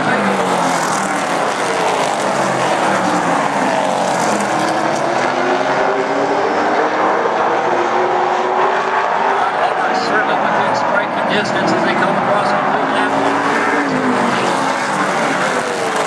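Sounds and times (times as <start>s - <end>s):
race car engines passing: 0.0s - 16.0s.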